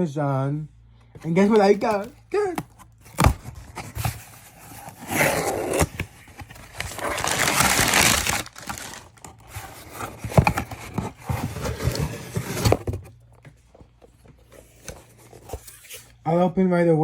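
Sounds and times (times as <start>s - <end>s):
packaging crinkling: 1.2s - 16.2s.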